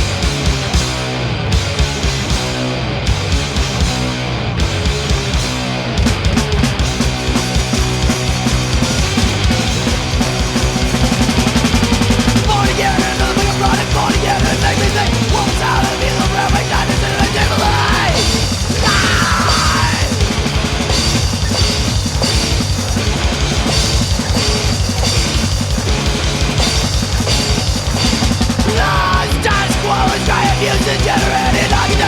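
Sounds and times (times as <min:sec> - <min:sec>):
bass guitar: 0:00.0 - 0:32.0
distorted electric guitars: 0:00.0 - 0:32.0
fast driving drum beat: 0:00.0 - 0:32.0.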